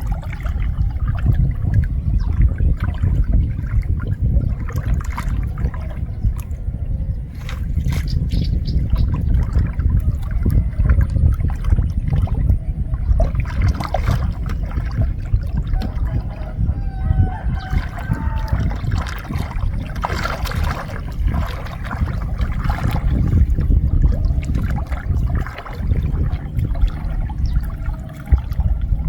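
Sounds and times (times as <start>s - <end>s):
steady low rumble: 0.0s - 29.0s
water trickling and splashing: 0.0s - 29.0s.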